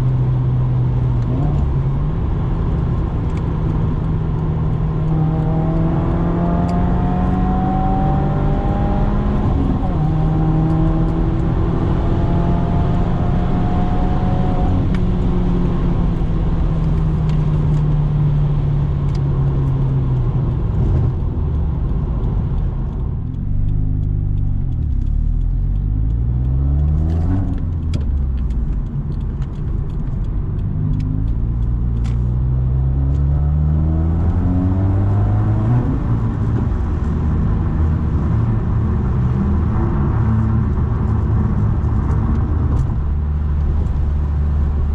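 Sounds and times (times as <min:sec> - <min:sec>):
loud car engine revving: 0:00.0 - 0:17.8, 0:22.1 - 0:28.4, 0:29.2 - 0:44.9.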